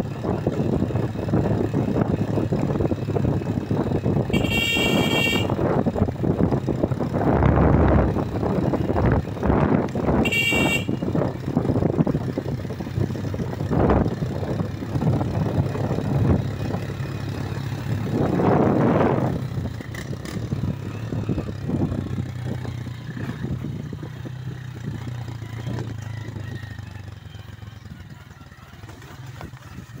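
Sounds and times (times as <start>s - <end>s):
wind noise on microphone: 0.0s - 26.8s, 29.3s - 30.0s
motorcycle engine running: 0.0s - 30.0s.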